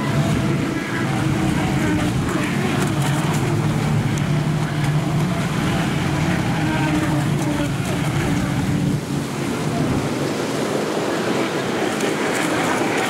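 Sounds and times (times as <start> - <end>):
hull splashing on waves: 0.0 - 13.0
speedboat motor hum: 0.0 - 13.0.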